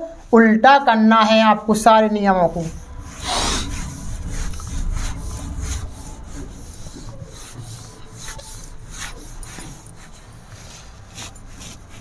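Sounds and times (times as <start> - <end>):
duster wiping a whiteboard: 1.3 - 12.0.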